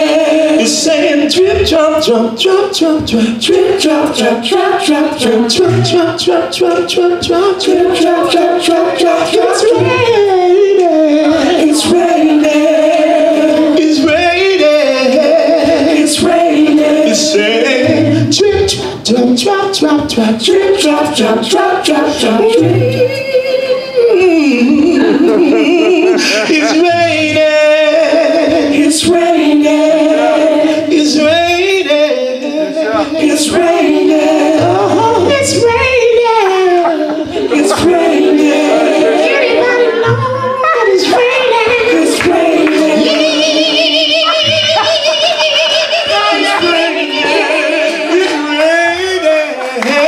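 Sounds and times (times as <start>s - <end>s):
choir singing gospel: 0.0s - 50.0s.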